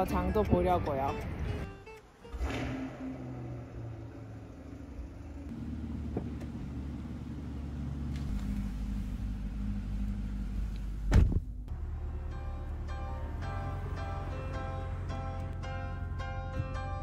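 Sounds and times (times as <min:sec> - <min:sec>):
car engine idling: 0:02.3 - 0:16.9.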